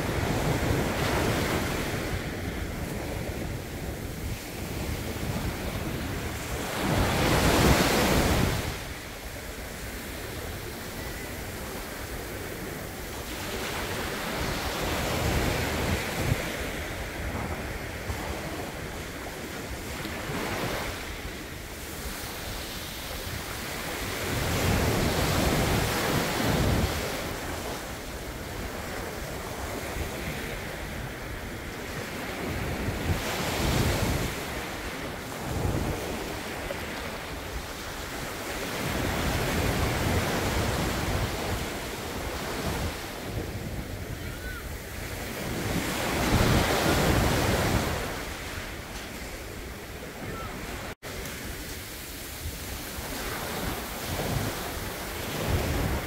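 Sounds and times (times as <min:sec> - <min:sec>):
small waves breaking on sand: 0:00.0 - 0:56.0.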